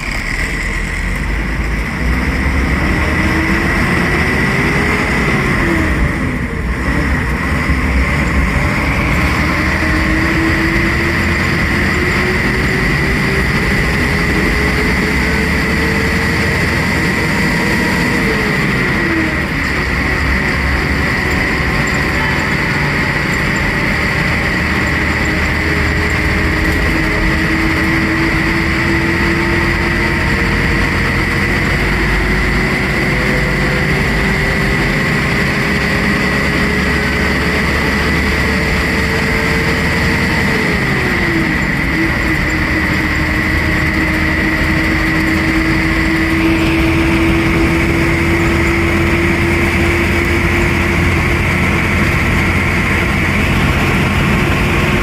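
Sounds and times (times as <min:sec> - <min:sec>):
road and wind noise: 0:00.0 - 0:55.0
vehicle engine running: 0:00.0 - 0:55.0.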